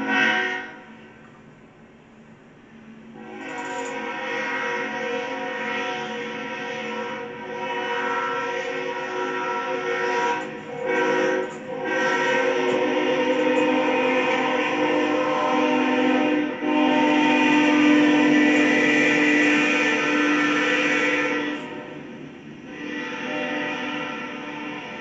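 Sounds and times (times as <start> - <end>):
locomotive air horn blasts: 0.0 - 1.1, 3.1 - 25.0.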